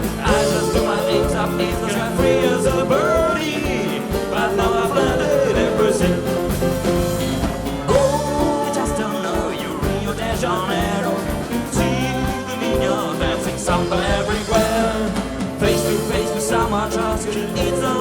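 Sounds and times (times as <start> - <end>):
drums beat: 0.0 - 18.0
live rock band playing: 0.0 - 18.0.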